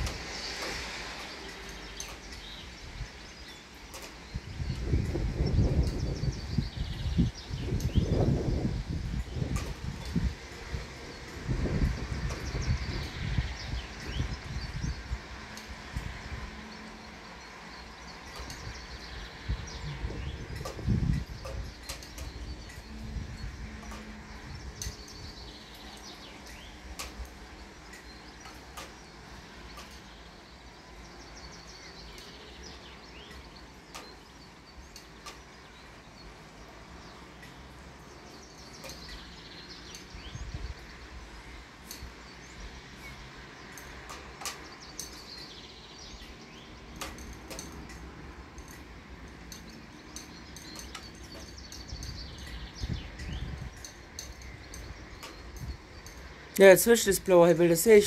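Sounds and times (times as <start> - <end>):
low wind rumble on microphone: 0.0 - 58.0.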